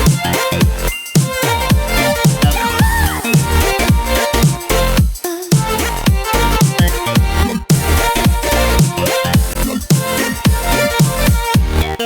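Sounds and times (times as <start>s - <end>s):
electronic pop music with deep bass: 0.0s - 12.0s.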